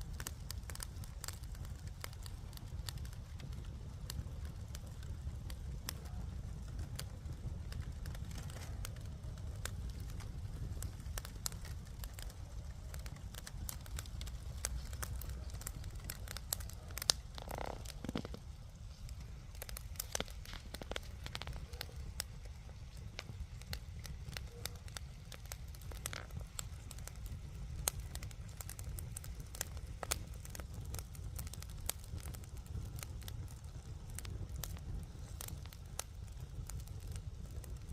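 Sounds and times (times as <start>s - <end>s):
bonfire crackling and popping: 0.0s - 37.9s
low steady rumble: 0.0s - 37.9s.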